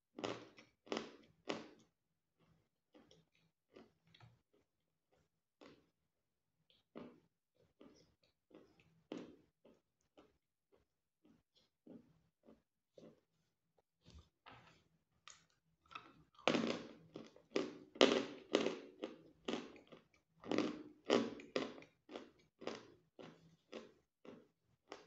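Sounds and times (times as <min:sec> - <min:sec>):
chewing crunchy croutons: 0:00.1 - 0:05.9, 0:06.7 - 0:13.2, 0:14.1 - 0:25.0.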